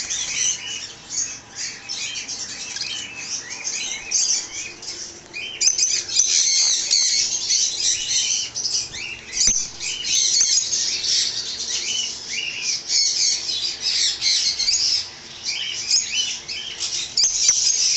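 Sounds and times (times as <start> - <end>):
parrots chirping and squawking: 0.0 - 17.9.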